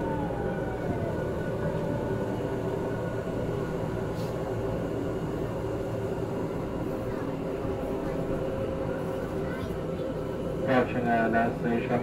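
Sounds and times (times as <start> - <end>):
train humming whine: 0.0 - 12.0.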